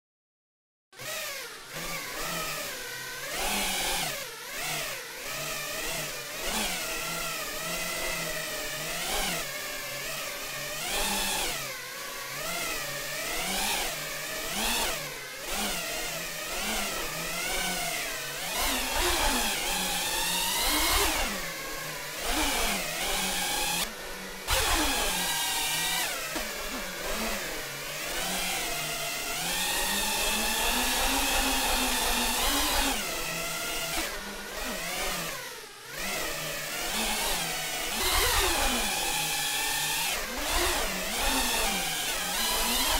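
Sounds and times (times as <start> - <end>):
drone motors whining: 1.0 - 42.9.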